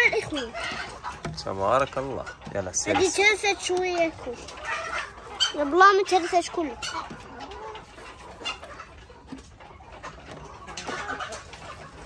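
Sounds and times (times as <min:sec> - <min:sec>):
chickens calling softly: 0:00.0 - 0:12.0.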